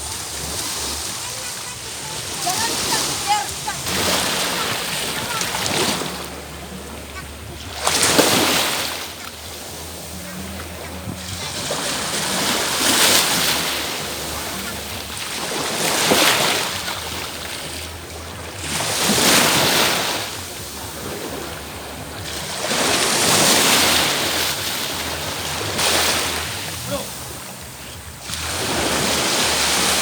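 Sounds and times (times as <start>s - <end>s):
sea waves breaking on beach: 0.0s - 30.0s.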